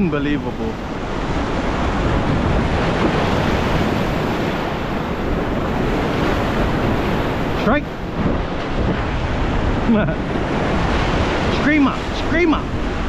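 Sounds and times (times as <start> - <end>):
ocean surf breaking: 0.0 - 13.0
wind noise on microphone: 0.0 - 13.0.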